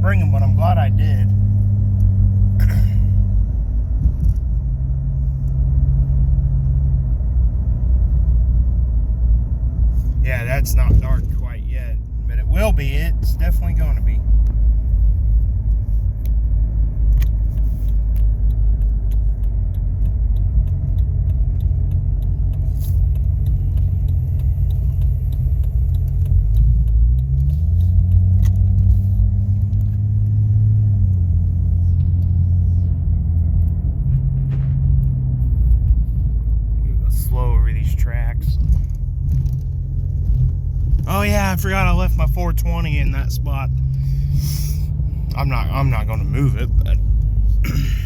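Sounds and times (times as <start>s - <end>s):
car engine drone: 0.0s - 48.0s
road rumble: 0.0s - 48.0s.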